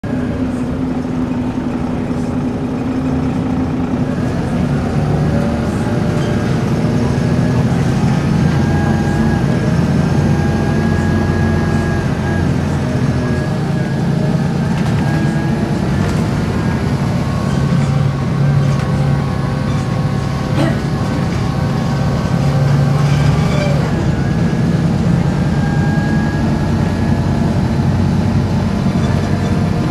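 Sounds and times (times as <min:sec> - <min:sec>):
bus engine running: 0:00.0 - 0:29.9
bus groaning: 0:00.0 - 0:29.9.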